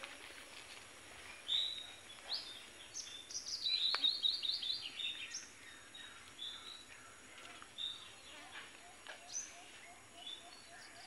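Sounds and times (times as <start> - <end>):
small birds chirping: 0.9 - 11.0.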